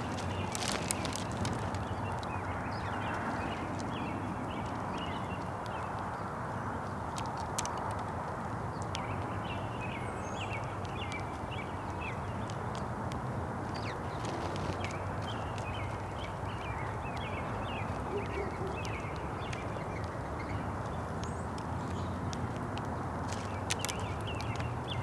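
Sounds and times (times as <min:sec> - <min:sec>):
songbirds chirping: 0:00.0 - 0:25.0
sharp taps and clicks: 0:00.2 - 0:25.0.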